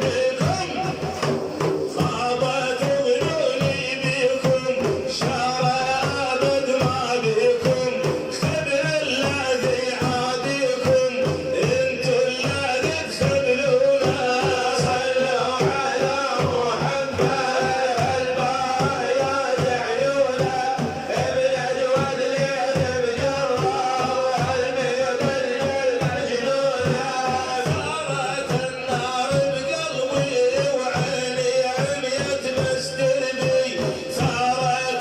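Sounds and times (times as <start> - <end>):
steady drum beat: 0.0 - 35.0.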